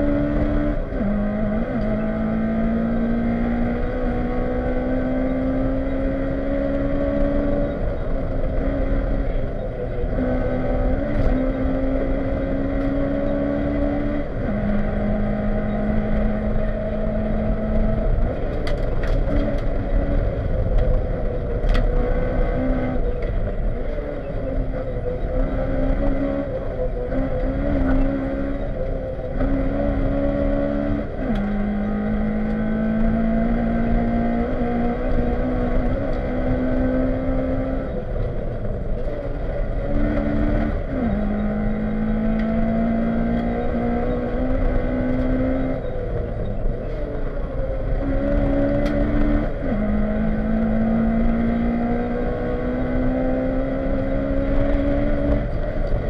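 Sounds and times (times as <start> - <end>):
rally car engine pulling through gears: 0.0 - 56.0.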